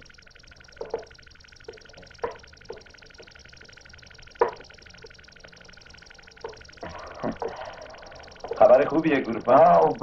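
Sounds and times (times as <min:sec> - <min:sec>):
high-pitched soundtrack hiss: 0:00.0 - 0:10.0.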